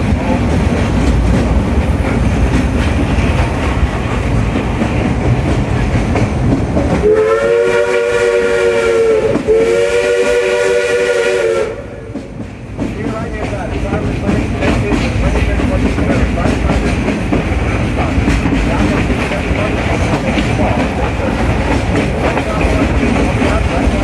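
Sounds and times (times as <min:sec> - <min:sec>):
steam locomotive rumbling: 0:00.0 - 0:24.0.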